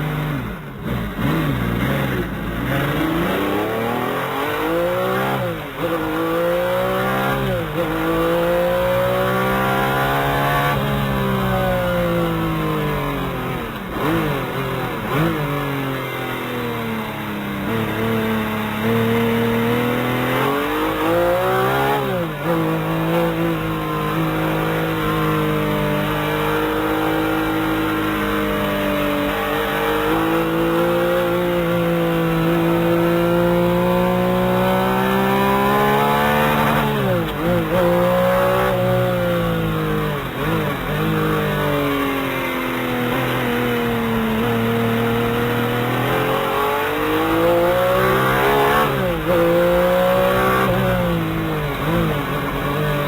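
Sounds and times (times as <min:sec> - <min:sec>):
car engine running hard: 0:00.0 - 0:53.0.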